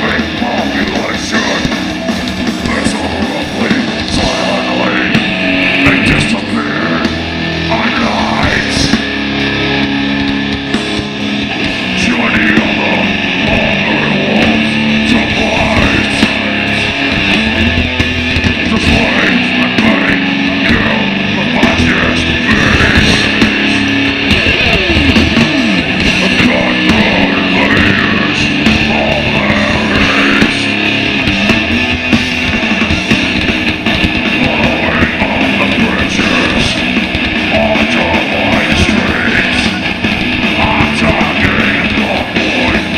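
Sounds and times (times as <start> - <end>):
death metal band playing live: 0.0 - 42.9.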